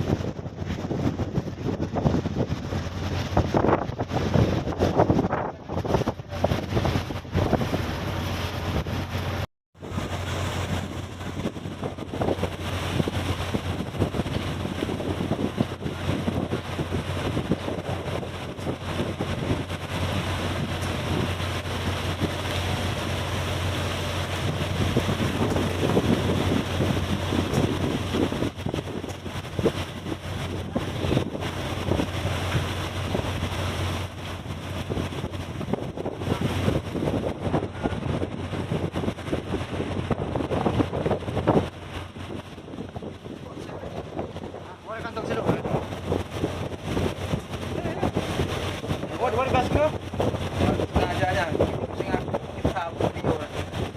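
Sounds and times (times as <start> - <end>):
ship engine drone: 0.0 - 53.9
wind buffeting microphone: 0.0 - 53.9.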